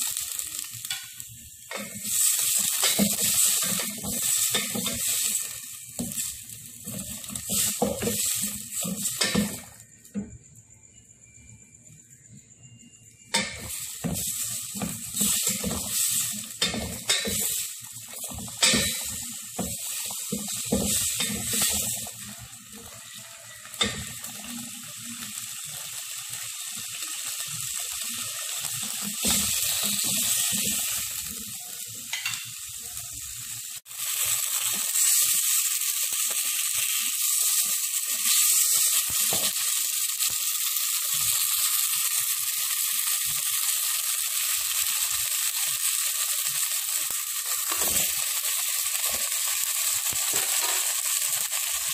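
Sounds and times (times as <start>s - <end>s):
vegetables sizzling in oil: 0.0s - 51.9s.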